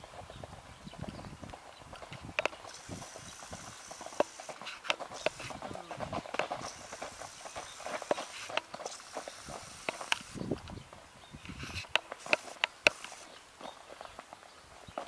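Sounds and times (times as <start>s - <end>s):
horse hooves striking ground: 0.0s - 15.0s.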